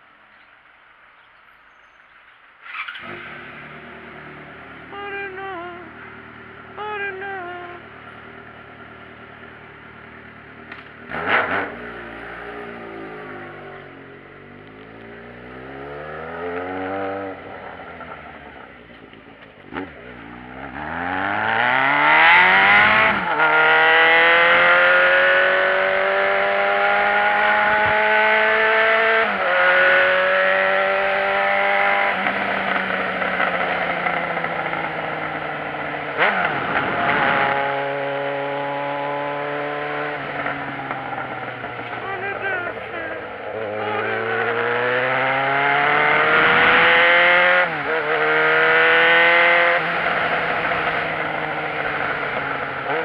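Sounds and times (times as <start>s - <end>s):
motorcycle engine accelerating: 2.6s - 53.0s.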